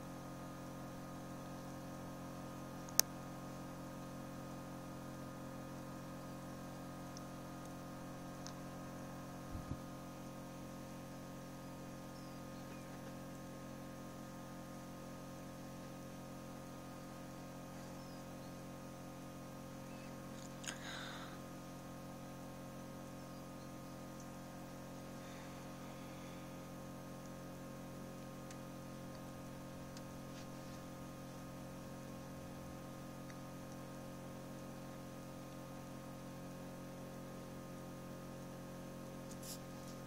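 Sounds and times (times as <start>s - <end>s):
incubator humming: 0.0s - 40.0s.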